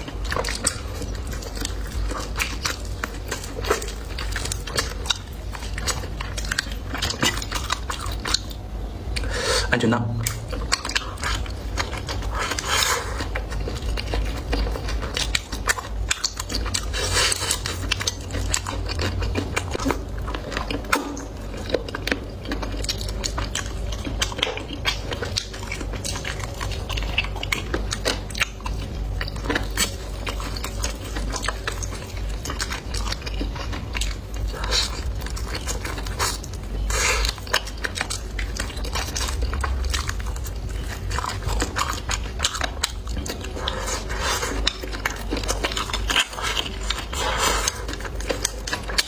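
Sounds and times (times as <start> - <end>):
chewing and crunching: 0.0 - 49.0.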